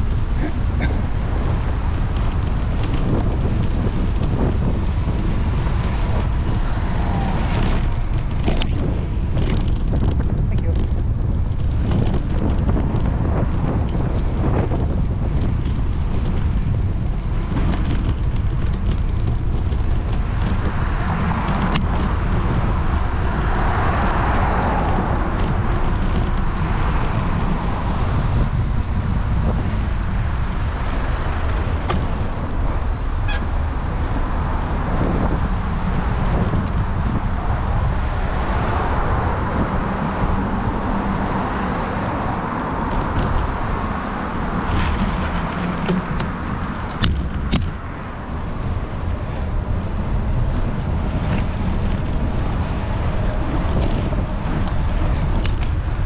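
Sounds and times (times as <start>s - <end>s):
road traffic passing: 0.0s - 56.0s
wind rumble on microphone: 0.0s - 56.0s.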